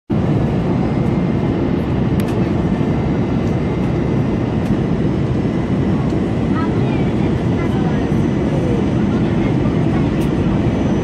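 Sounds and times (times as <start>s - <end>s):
jet engine and airflow rumble: 0.1s - 11.0s.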